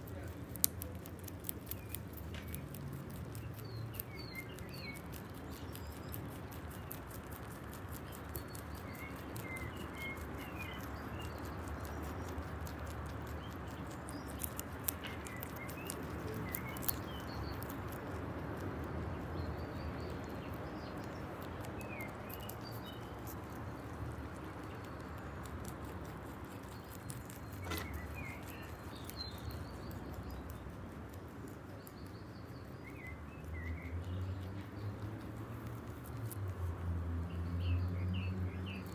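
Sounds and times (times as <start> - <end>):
rabbits chewing stems: 0.0 - 38.9
birds chirping: 0.1 - 38.9.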